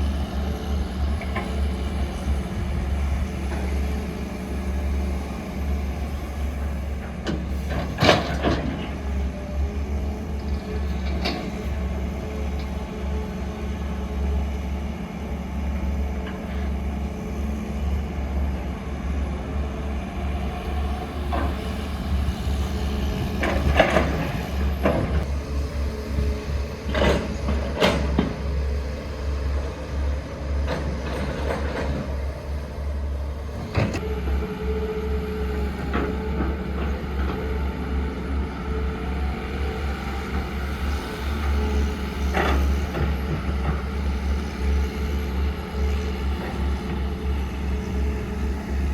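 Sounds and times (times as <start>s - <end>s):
diesel machinery droning: 0.0s - 48.9s.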